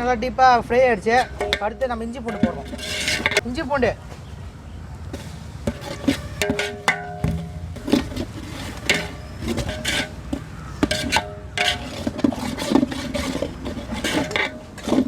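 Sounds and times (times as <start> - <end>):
metal spoon scraping a cooking pot: 1.0 - 3.4, 5.2 - 15.0.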